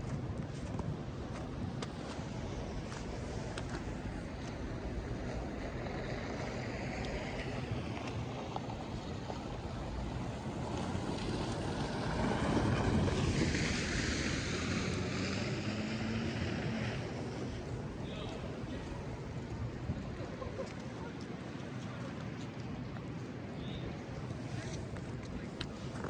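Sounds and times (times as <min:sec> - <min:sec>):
vehicle engine hum: 0:00.0 - 0:22.4.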